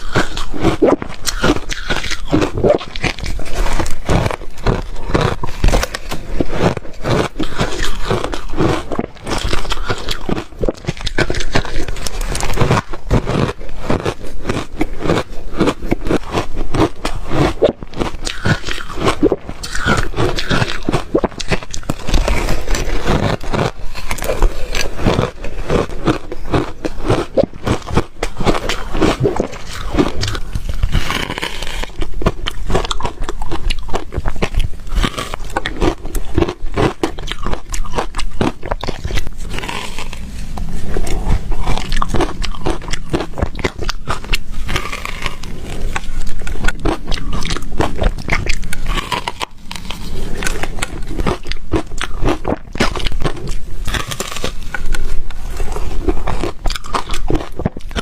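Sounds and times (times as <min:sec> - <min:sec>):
person chewing ice: 0:00.0 - 0:58.0.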